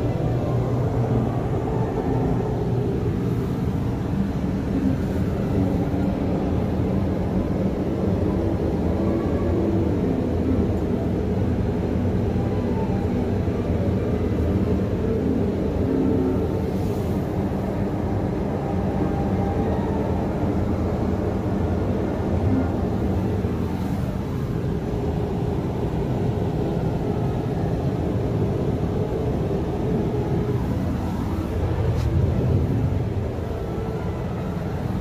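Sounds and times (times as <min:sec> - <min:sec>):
low rumble and hum: 0:00.0 - 0:35.0.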